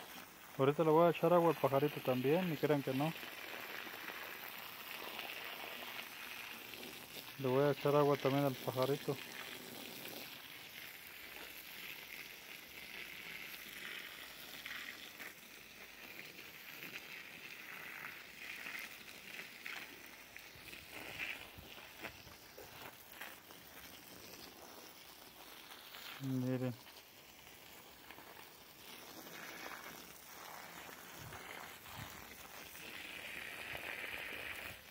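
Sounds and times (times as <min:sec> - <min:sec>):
hose water splashing onto soil: 0:00.0 - 0:34.9.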